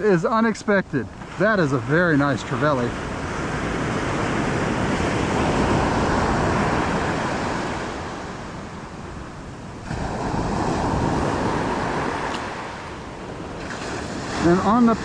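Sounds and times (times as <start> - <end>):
ocean surf breaking: 0.0 - 15.0
wind buffeting microphone: 0.8 - 15.0.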